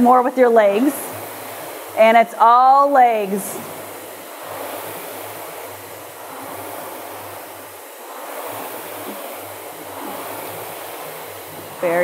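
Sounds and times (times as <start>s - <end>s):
rowing machine flywheels whooshing: 0.0s - 12.0s.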